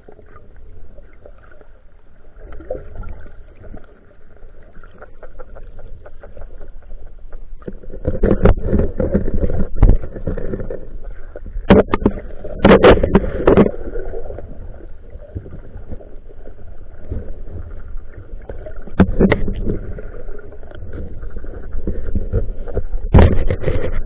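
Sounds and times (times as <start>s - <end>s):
muffled water sloshing underwater: 0.0s - 24.0s.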